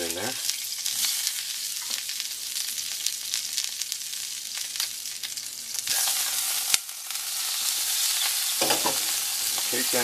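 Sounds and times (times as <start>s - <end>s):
egg sizzling in oil: 0.0s - 10.0s.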